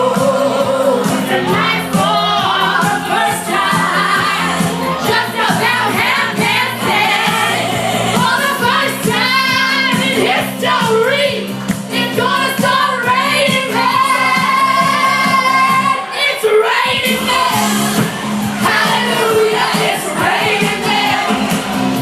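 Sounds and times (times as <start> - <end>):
voices singing: 0.0 - 22.0.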